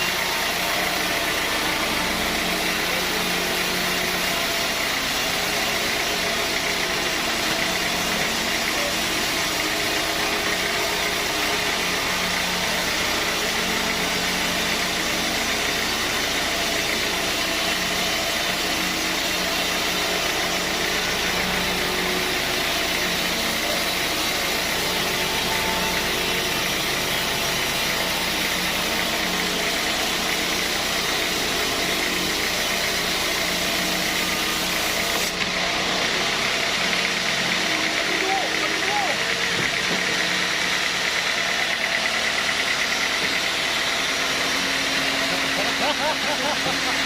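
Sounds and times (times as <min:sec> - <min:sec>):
sawmill machinery humming: 0:00.0 - 0:47.0.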